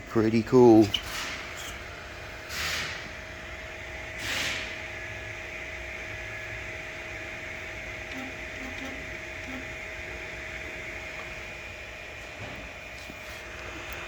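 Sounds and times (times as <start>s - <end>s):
low stepper motor notes: 0.0s - 14.0s
printer motors and fans whining: 0.0s - 14.0s.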